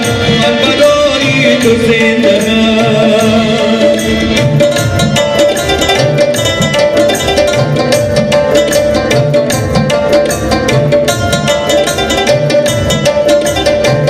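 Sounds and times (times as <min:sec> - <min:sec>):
hand-drum rhythm: 0:00.0 - 0:14.0
keyboard plucked melody: 0:00.0 - 0:14.0.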